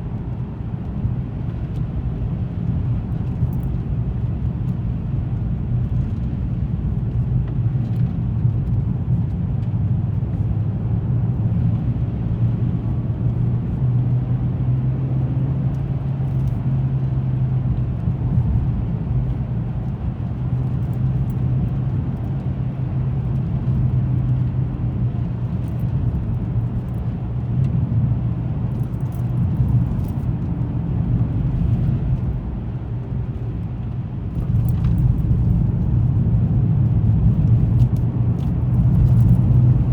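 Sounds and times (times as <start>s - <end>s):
car engine and tyre hum: 0.0s - 39.9s.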